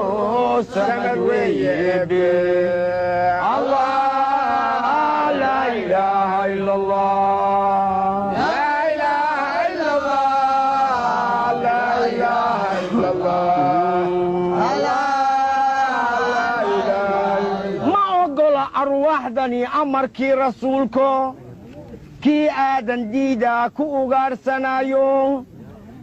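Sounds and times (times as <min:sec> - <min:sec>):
voices chanting: 0:00.0 - 0:21.4.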